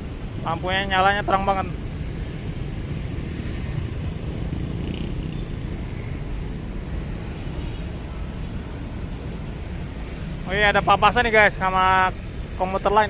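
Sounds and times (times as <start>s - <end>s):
low rumble of railway traffic: 0.0s - 13.0s.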